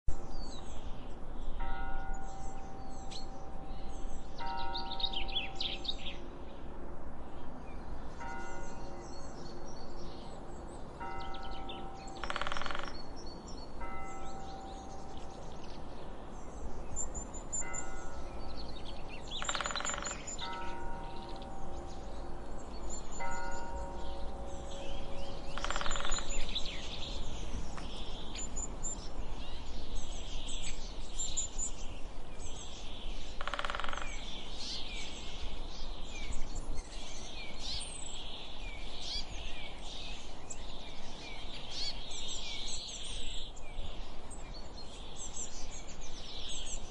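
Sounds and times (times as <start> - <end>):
outdoor background rush: 0.1 - 46.9
birds chirping and singing: 1.5 - 6.2, 7.6 - 46.9.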